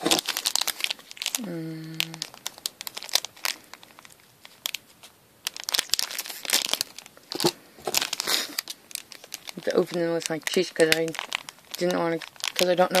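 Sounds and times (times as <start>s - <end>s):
foil packets crinkling: 0.0s - 13.0s.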